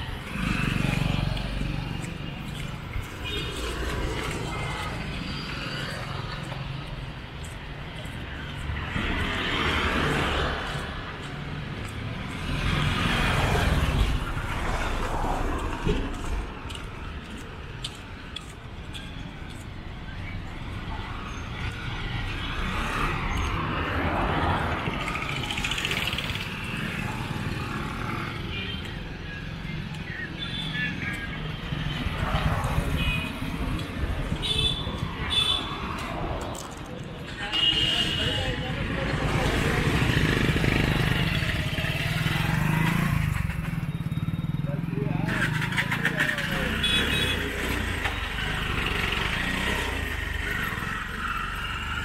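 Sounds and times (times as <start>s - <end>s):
street traffic rumble: 0.0s - 52.0s.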